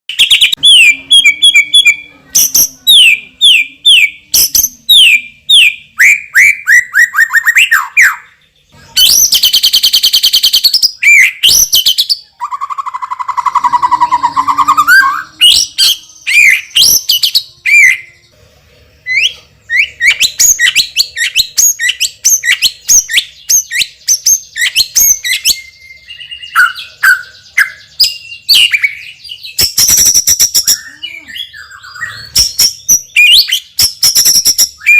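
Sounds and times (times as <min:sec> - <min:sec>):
songbird singing varied phrases: 0:00.1 - 0:18.4, 0:19.0 - 0:34.9.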